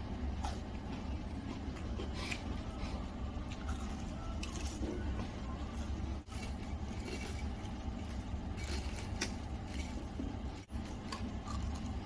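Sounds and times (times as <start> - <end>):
low room hum: 0.0 - 12.0
person chewing crunchy food: 0.0 - 12.0.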